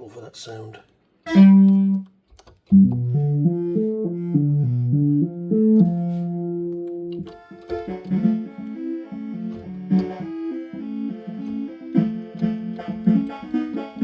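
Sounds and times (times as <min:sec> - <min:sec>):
synthesizer arpeggio: 0:02.8 - 0:14.0.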